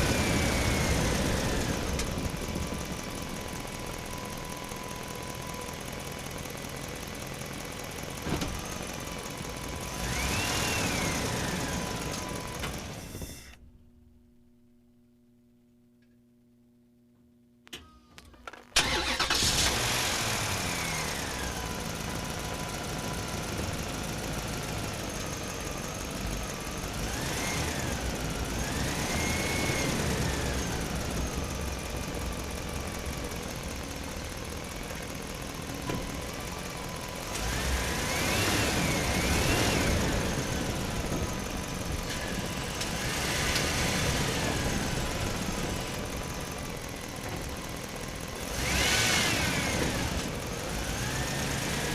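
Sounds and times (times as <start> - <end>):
truck engine starting and revving: 0.0 - 13.5, 18.8 - 51.9.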